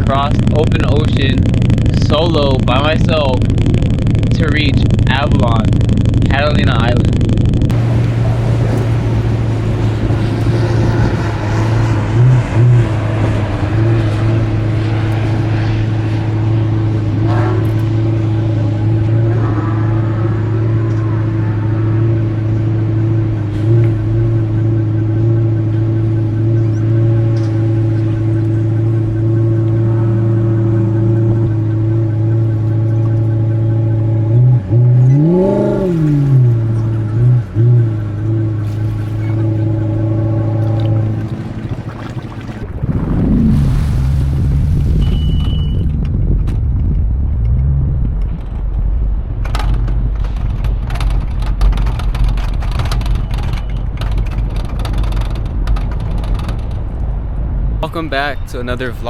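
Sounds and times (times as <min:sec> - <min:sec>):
jet ski engine running: 0:00.0 - 0:58.0.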